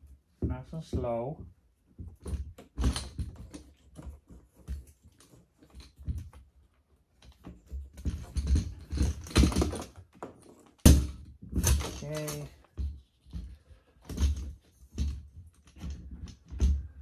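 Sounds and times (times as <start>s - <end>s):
plastic and metal parts knocking and scraping: 0.0s - 17.0s.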